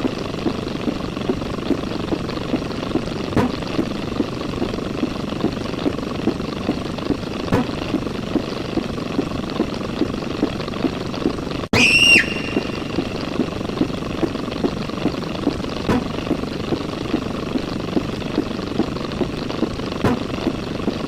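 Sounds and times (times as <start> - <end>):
mechanical noise with thudding beat: 0.0 - 11.7, 12.3 - 21.0.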